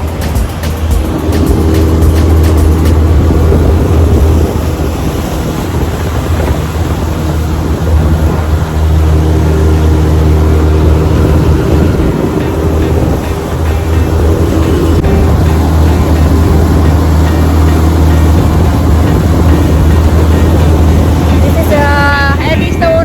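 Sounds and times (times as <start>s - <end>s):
constant rushing noise: 0.0s - 23.0s
motorboat engine humming: 0.0s - 23.0s.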